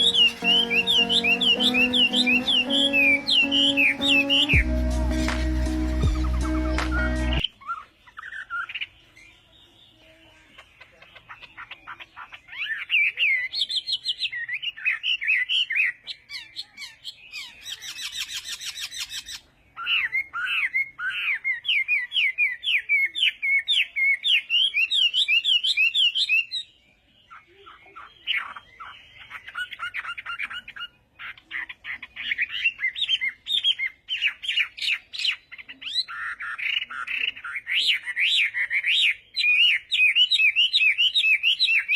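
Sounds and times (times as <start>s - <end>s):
birds chirping: 0.0s - 22.6s, 23.2s - 41.9s.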